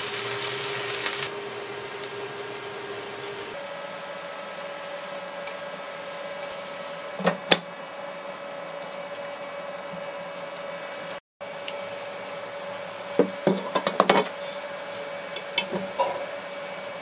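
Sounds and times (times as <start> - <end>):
electric machine hum: 0.0 - 17.0.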